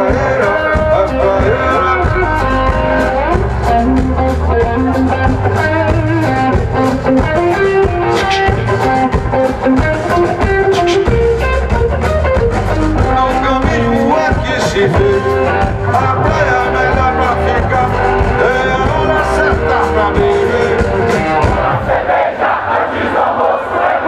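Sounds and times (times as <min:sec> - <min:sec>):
bass guitar: 0:00.0 - 0:21.9
drum kit: 0:00.0 - 0:22.1.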